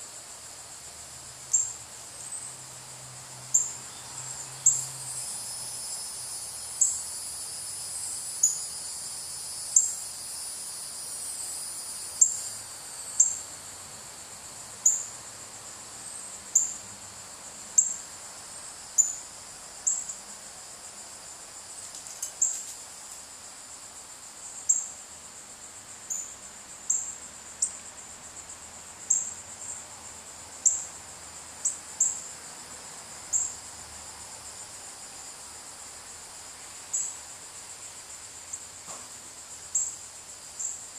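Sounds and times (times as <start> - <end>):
insect drone: 0.0 - 40.9
sharp high insect chirp: 0.0 - 40.9.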